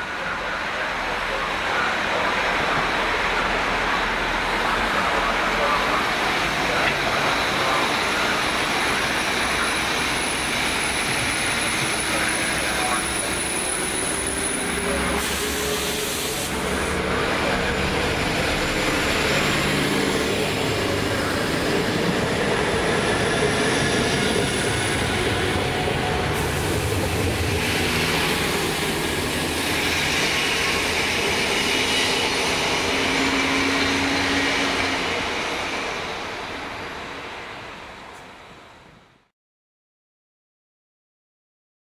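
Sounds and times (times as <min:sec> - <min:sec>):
diesel railcar engines under load: 0:00.0 - 0:39.1
train wheels rumbling on rails: 0:00.2 - 0:39.0.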